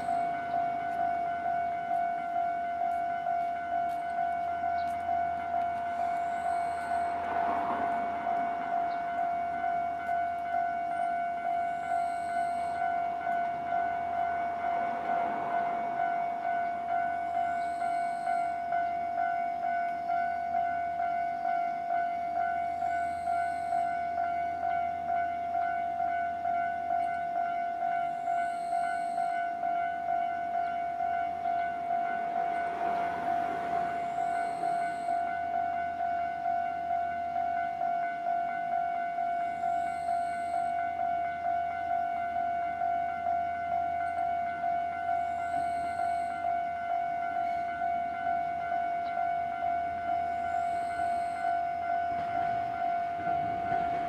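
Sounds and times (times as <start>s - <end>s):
level crossing warning bell: 0.0s - 54.0s.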